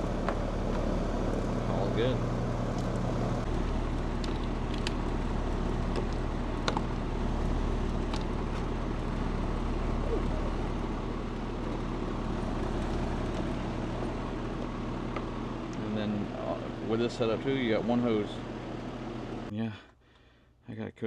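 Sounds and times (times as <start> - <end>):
air conditioner humming: 0.0 - 20.2.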